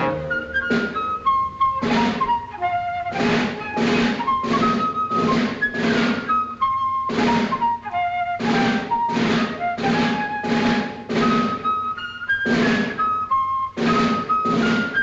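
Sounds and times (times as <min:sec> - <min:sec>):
loud percussion hits: 0:00.0 - 0:11.8, 0:12.4 - 0:15.0
flute melody: 0:00.0 - 0:15.0.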